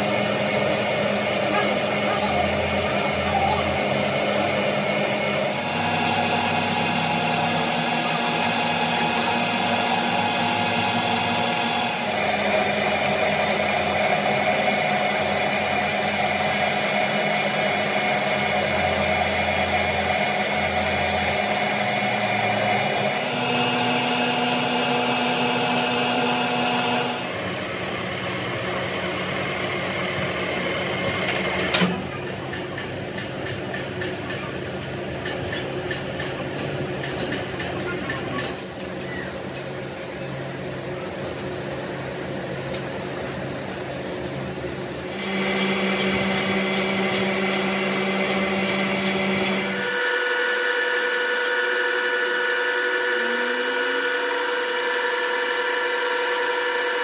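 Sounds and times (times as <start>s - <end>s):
workshop machinery motor hum: 0.0s - 57.0s.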